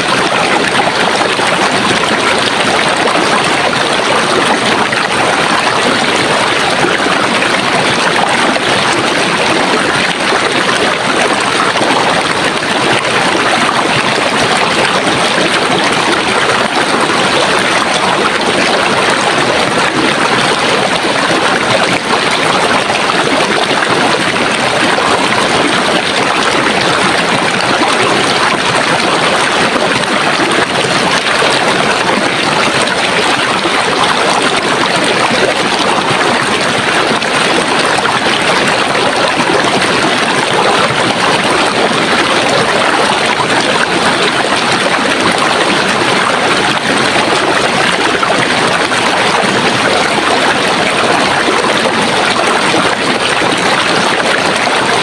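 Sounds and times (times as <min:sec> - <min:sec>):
running water flowing: 0:00.0 - 0:55.0.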